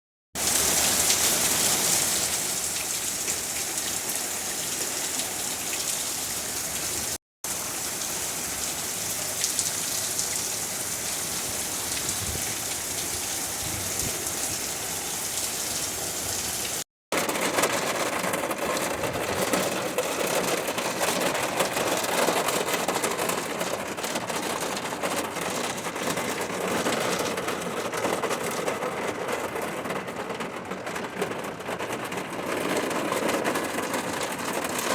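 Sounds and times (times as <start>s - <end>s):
steady rain falling: 0.4s - 34.9s.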